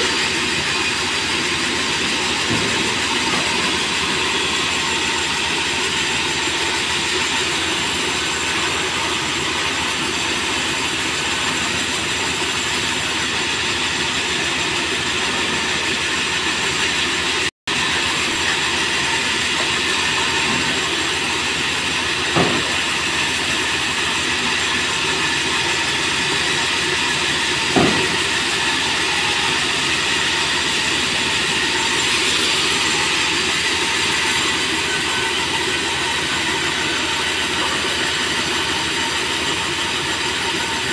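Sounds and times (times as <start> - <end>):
sawmill saw and conveyor running: 0.0 - 40.9.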